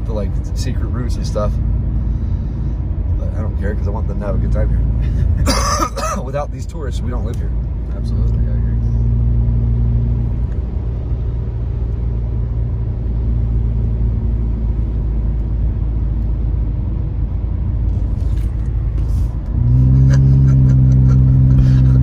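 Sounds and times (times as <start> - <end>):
car engine and tyres on wet road: 0.0 - 22.0.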